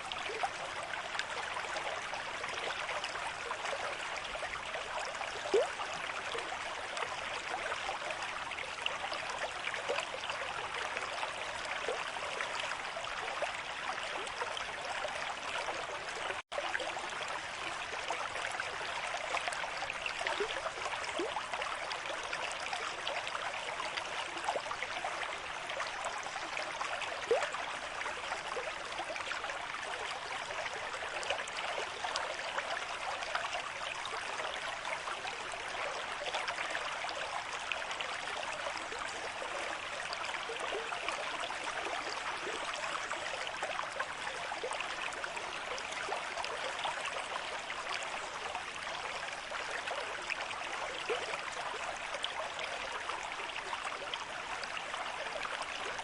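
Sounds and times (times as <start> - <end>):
stream flowing and babbling: 0.0 - 56.0.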